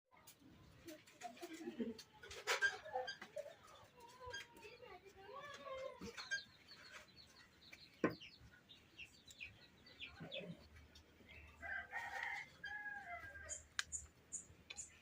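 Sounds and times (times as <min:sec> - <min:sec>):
small birds chirping: 0:00.2 - 0:15.0
chicken clucking: 0:00.9 - 0:14.9.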